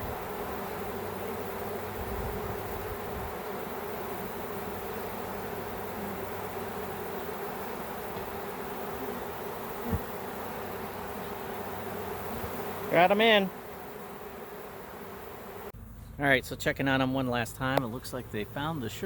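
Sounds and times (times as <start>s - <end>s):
bees buzzing: 0.0s - 16.2s.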